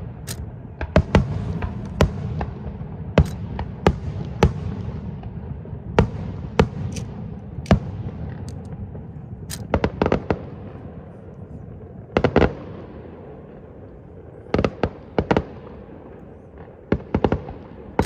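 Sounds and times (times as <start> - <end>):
continuous low rumble: 0.0 - 18.0
fireworks bangs: 0.0 - 18.0.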